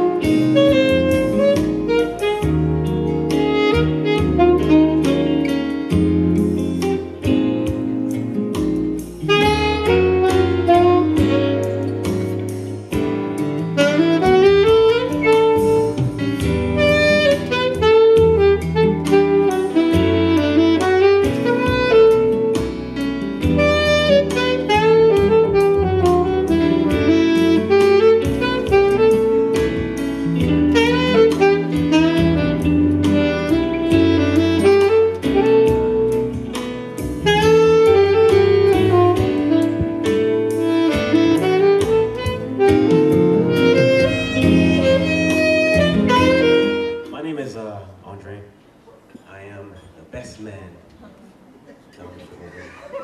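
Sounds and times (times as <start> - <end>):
saxophone melody: 0.0 - 47.5
bass: 0.0 - 48.5.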